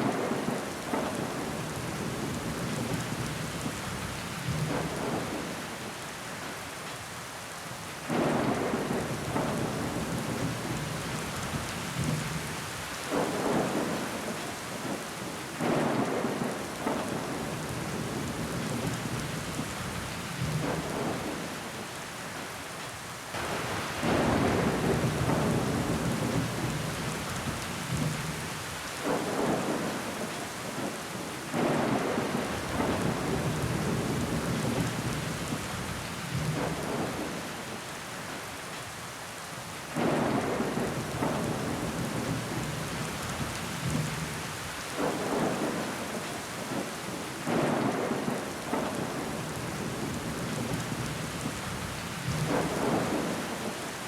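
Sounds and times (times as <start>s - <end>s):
rain on window pane: 0.1s - 5.8s, 8.1s - 21.8s, 23.3s - 37.9s, 40.0s - 54.0s.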